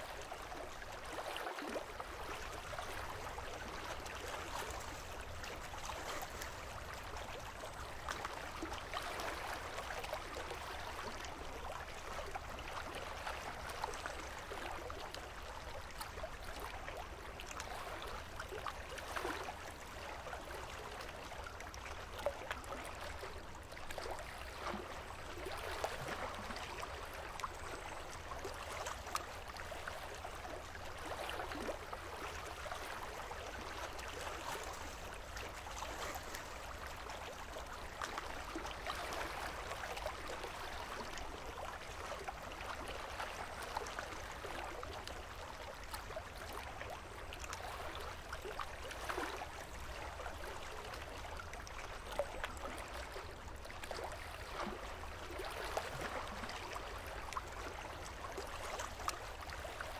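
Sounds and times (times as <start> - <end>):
water lapping among rocks: 0.1 - 59.9.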